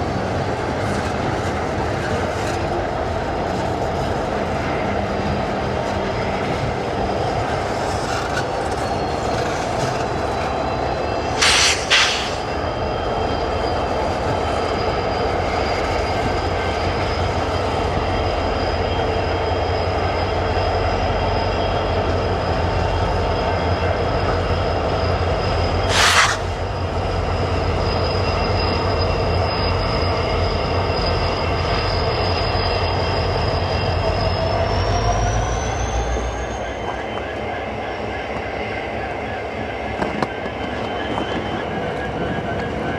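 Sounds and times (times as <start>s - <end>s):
freight train rumble: 0.0s - 42.9s
train wheel squeal: 0.0s - 42.9s.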